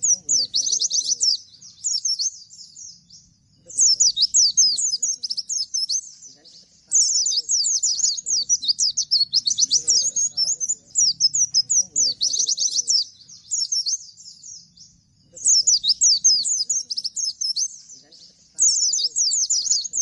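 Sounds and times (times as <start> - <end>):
bird singing rapid high notes: 0.0 - 20.0.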